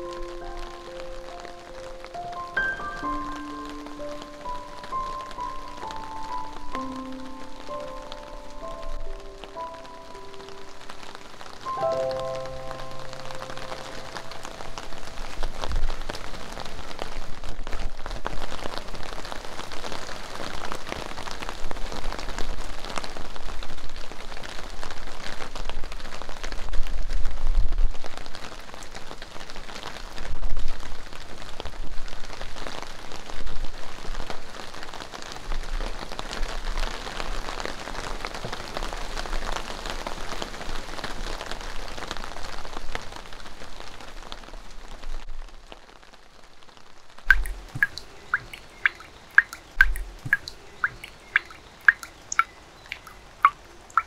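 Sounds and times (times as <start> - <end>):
light rain on plants and paving: 0.0 - 54.0.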